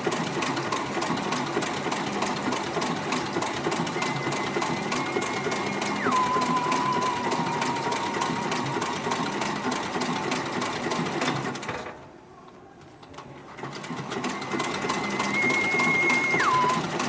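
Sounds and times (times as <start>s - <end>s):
sewing machine clicking: 0.0s - 12.0s, 12.8s - 17.0s.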